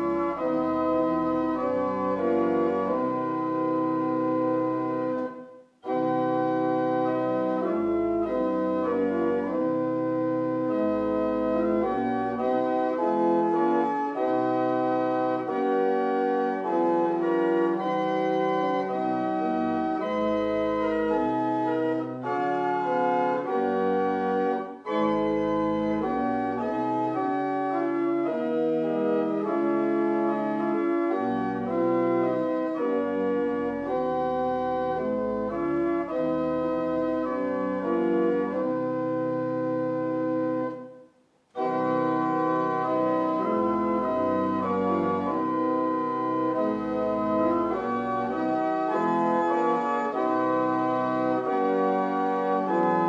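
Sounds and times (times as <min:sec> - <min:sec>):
organ playing a hymn: 0:00.0 - 0:53.0.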